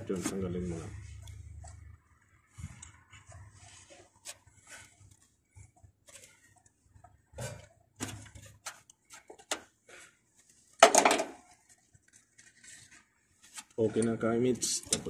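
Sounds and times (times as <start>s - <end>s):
small clicks and rustles: 1.2s - 10.8s, 11.4s - 15.0s.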